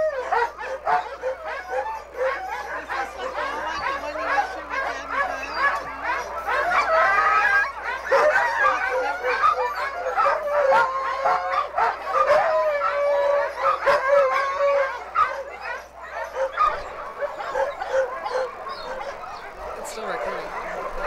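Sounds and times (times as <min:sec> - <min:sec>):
dog howling: 0:00.0 - 0:21.0
sled dogs barking and yipping: 0:00.0 - 0:21.0.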